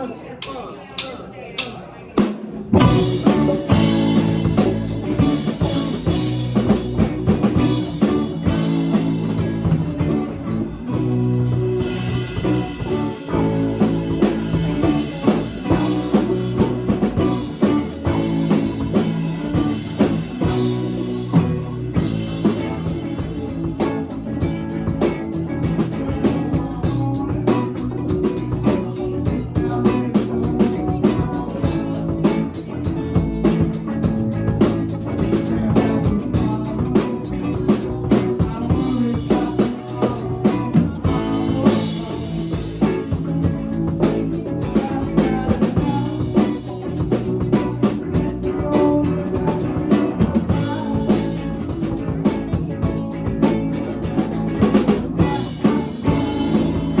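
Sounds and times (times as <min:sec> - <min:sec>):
steady drum beats: 0:00.4 - 0:57.0
live blues-rock band: 0:02.2 - 0:57.0.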